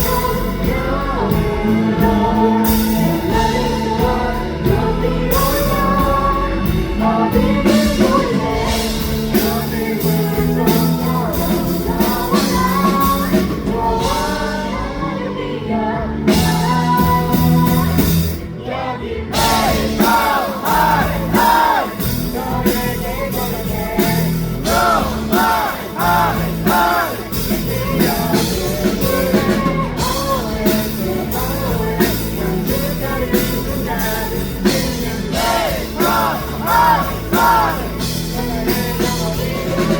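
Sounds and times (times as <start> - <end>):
bass: 0.0 - 39.9
drums: 0.0 - 39.9
woman singing lead: 0.0 - 39.9.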